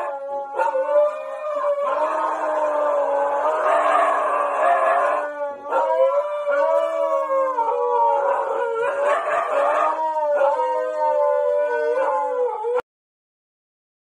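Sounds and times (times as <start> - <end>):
dogs howling together: 0.0 - 12.8.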